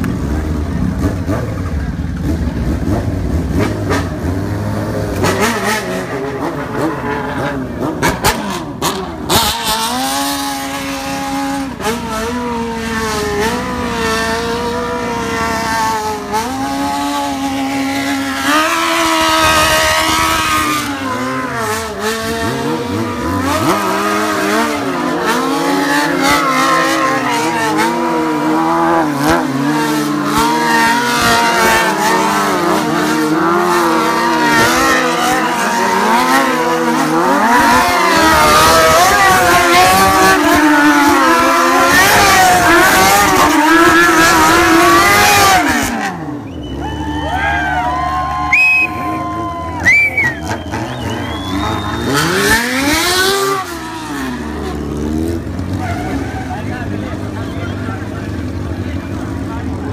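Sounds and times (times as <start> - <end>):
motorcycle engines revving hard: 0.0 - 59.9.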